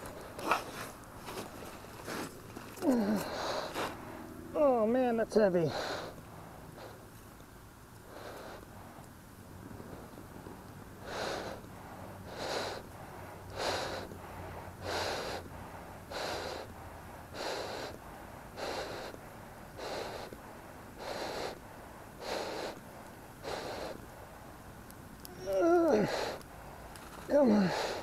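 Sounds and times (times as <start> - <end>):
person breathing hard: 0.0 - 4.3, 5.6 - 7.1, 8.1 - 9.0, 11.0 - 24.5, 25.3 - 28.0.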